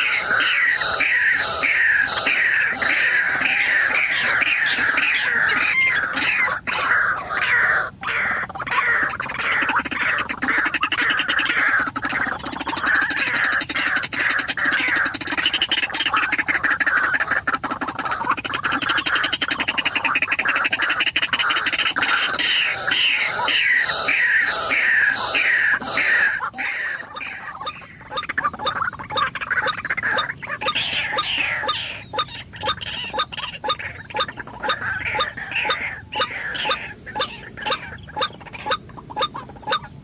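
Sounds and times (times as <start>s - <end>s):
bird calling harsh notes: 0.0s - 16.1s, 18.1s - 40.0s.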